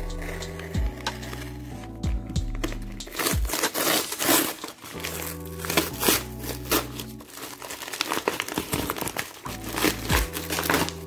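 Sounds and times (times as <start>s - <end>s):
background music: 0.0s - 11.0s
bubble wrap and paper crinkling: 0.0s - 11.0s.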